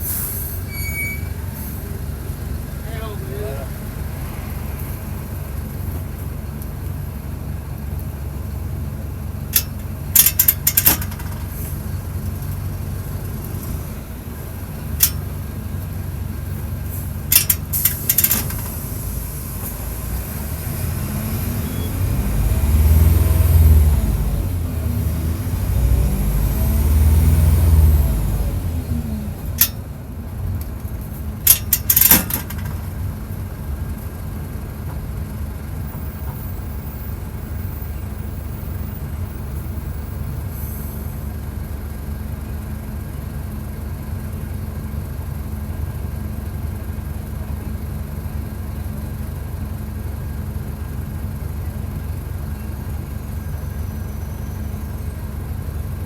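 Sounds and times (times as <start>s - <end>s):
bus diesel engine revving and idling: 0.0s - 56.0s.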